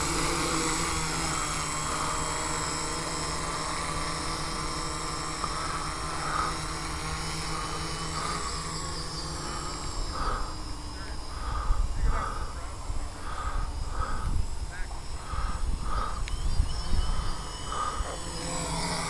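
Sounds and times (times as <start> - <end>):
quadcopter motors humming: 0.0 - 19.0.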